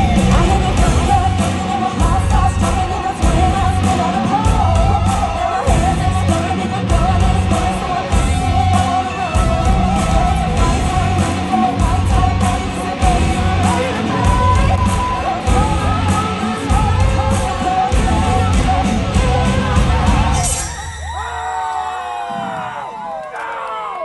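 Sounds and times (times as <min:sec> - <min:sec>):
electric guitar: 0:00.0 - 0:20.7
person singing: 0:00.0 - 0:21.0
rock song: 0:00.0 - 0:21.6.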